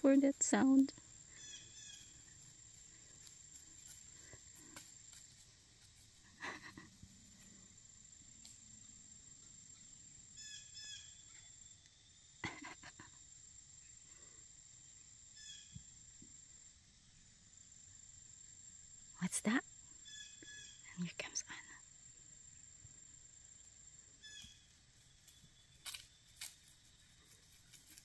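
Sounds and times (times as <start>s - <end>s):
faint birds chirping: 0.0s - 28.0s
high insect drone: 0.0s - 28.0s.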